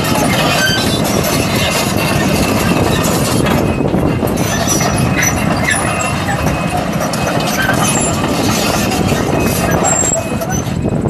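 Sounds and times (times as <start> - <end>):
crawler track clatter: 0.0 - 11.0
excavator diesel engine rumble: 0.0 - 11.0.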